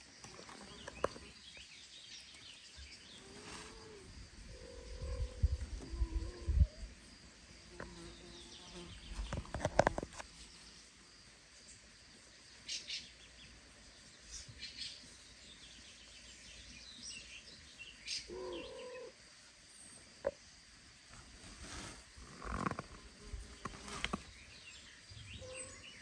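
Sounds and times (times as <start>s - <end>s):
small birds chirping: 0.0s - 20.5s, 21.1s - 26.0s.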